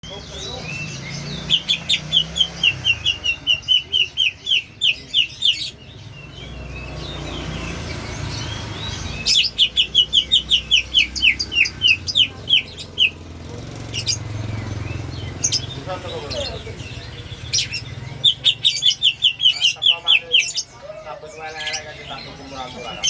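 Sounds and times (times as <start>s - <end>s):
bird calling with high sliding notes: 0.0s - 23.0s.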